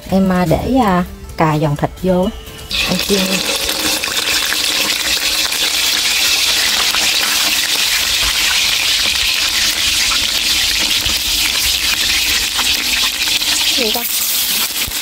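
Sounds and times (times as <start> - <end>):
oil sizzling in a wok: 2.7 - 15.0.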